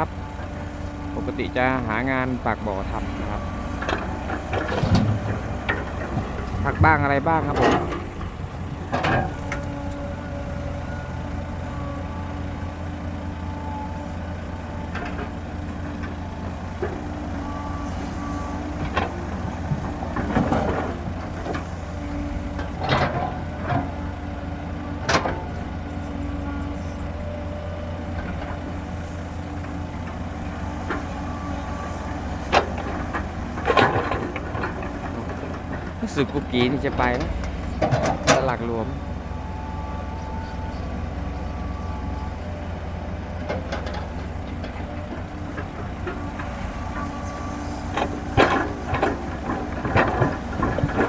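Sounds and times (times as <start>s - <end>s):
diesel engine rumbling: 0.0s - 51.0s.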